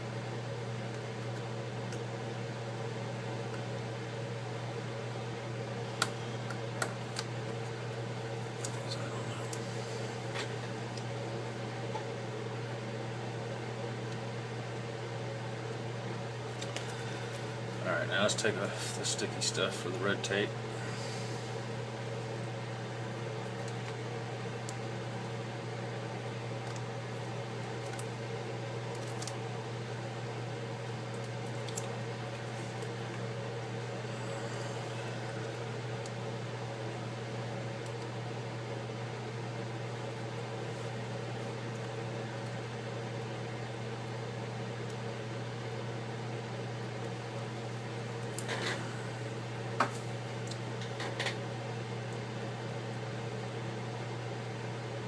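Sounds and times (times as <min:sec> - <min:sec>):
electrical appliance humming: 0:00.0 - 0:55.0.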